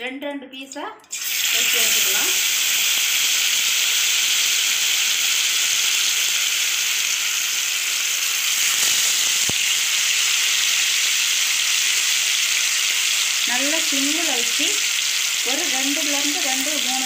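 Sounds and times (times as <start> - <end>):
chicken sizzling in hot oil: 1.1 - 17.0.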